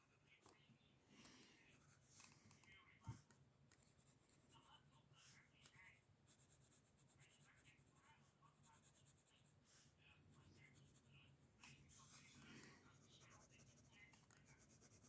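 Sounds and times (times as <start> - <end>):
pencil scratching on paper: 1.6 - 15.0.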